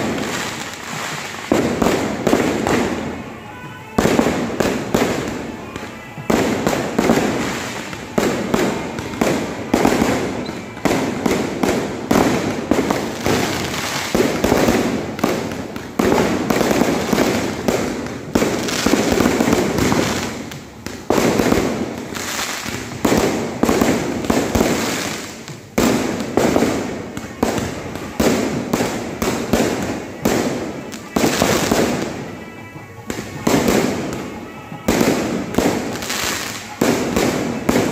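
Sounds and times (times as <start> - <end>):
fireworks bangs and crackling: 0.0 - 37.9.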